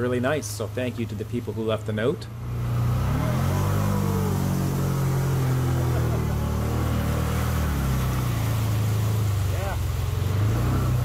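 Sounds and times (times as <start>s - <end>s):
vehicle engine running: 0.3s - 11.0s.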